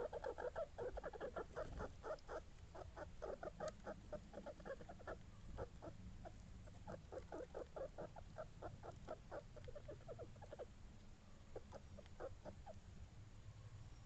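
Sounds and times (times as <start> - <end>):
small animal clucking: 0.0 - 13.0.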